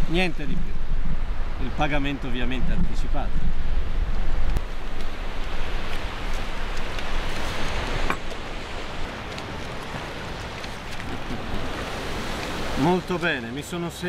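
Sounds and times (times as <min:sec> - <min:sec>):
surf: 0:00.0 - 0:14.0
wind: 0:00.0 - 0:14.0.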